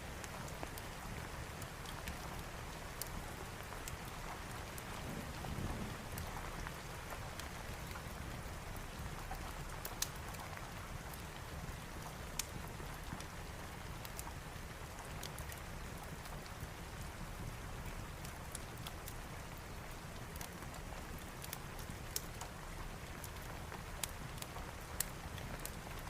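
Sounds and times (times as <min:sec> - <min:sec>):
steady rain: 0:00.0 - 0:26.0
wood fire crackling and popping: 0:00.2 - 0:26.0.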